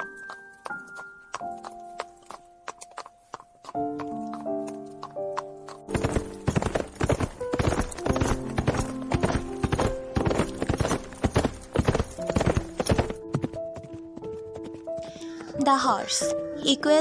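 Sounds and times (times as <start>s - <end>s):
horse hooves clip-clopping: 0.0s - 16.0s
background music with held notes: 0.0s - 17.0s.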